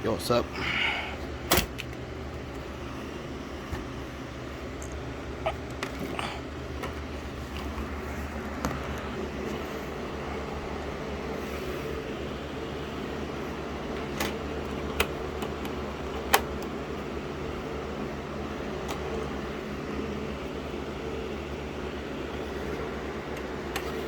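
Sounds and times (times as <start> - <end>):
steady fan-like hum: 0.0 - 24.0.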